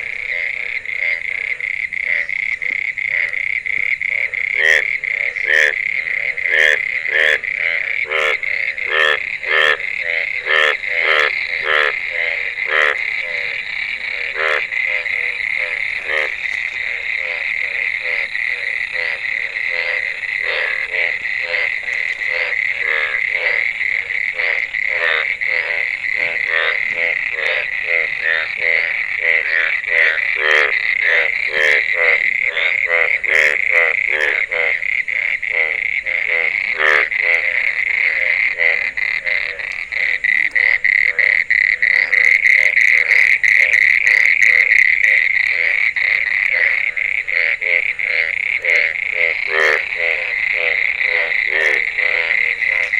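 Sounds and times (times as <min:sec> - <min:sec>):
frogs croaking: 0:00.0 - 0:52.9
high-pitched frog chorus: 0:00.0 - 0:52.9.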